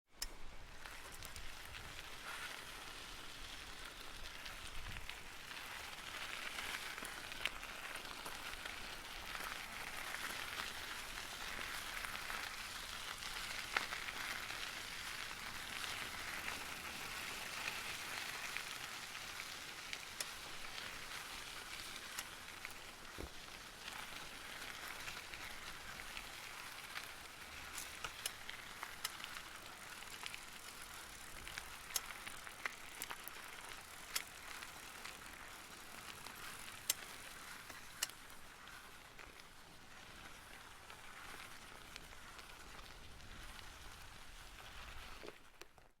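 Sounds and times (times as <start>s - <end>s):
bicycle tyres crunching on gravel: 0.2s - 46.0s.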